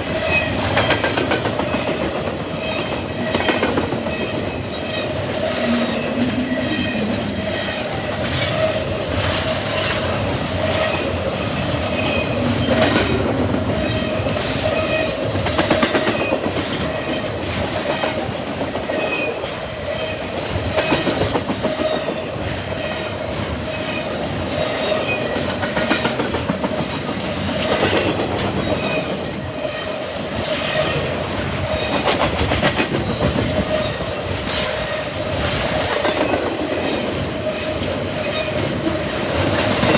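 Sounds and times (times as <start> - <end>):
freight train rolling past: 0.0 - 39.9
wheels clacking over rail joints: 0.0 - 39.9.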